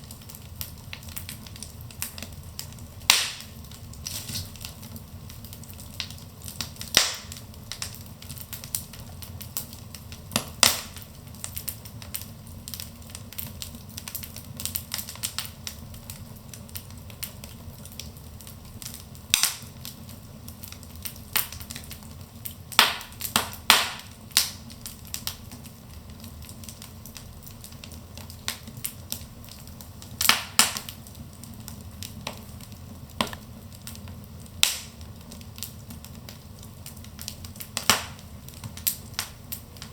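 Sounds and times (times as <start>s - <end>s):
burning logs crackling and popping: 0.0s - 39.9s
flames rushing: 0.0s - 39.9s.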